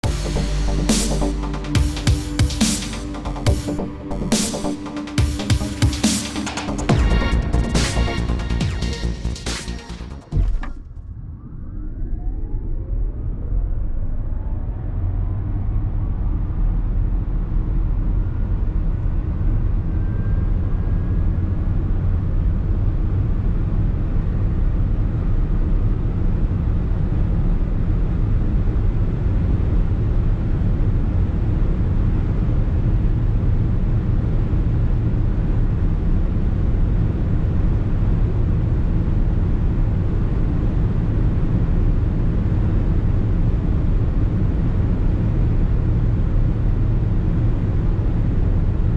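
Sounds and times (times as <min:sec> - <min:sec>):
low rumble: 0:00.0 - 0:48.9.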